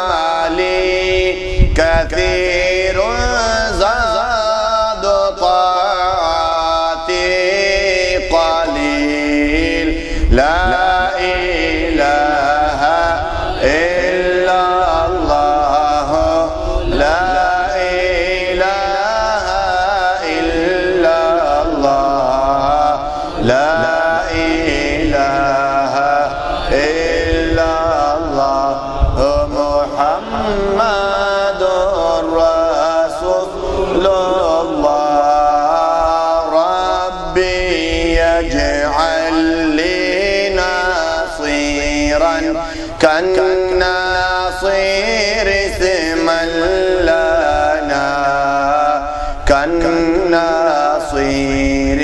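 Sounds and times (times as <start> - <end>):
man chanting melismatic ode: 0.0 - 52.0.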